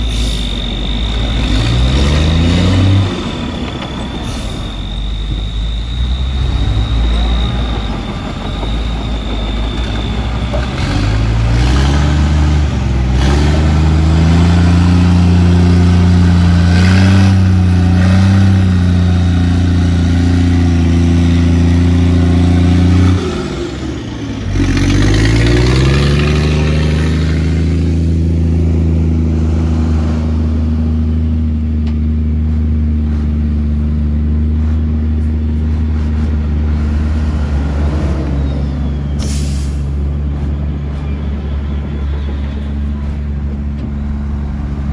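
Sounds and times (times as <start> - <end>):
heavy diesel engine revving: 0.0 - 44.9.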